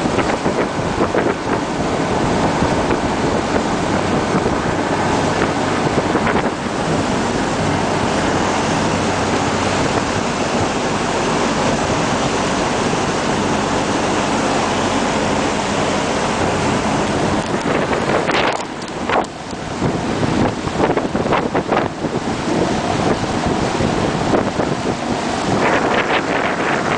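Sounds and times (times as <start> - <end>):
churning wake water: 0.0 - 26.9
low engine hum: 0.0 - 26.9
wind buffeting microphone: 0.0 - 26.9.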